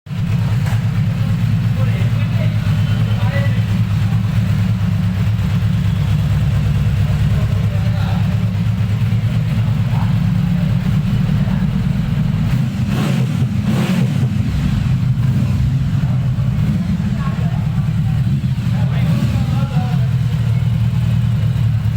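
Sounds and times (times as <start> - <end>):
motorcycle engine idling: 0.1 - 21.9.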